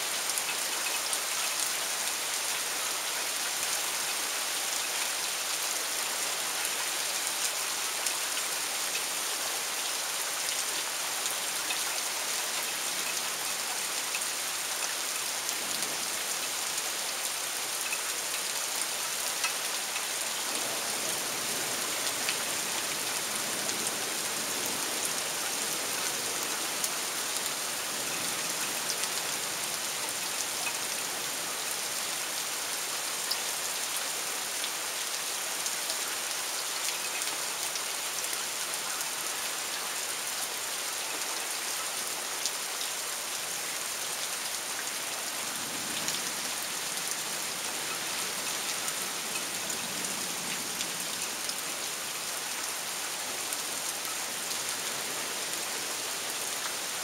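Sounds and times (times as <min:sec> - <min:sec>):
raindrops ticking on surfaces: 0:00.0 - 0:57.0
torrential rain hiss: 0:00.0 - 0:57.0.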